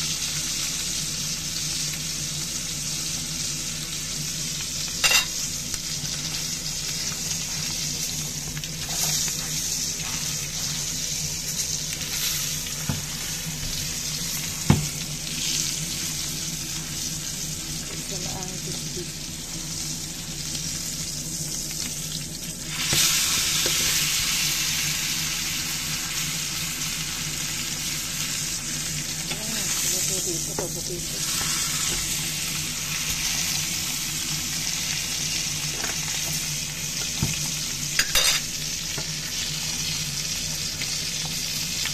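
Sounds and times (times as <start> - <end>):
steak sizzling in a frying pan: 0.0 - 41.9.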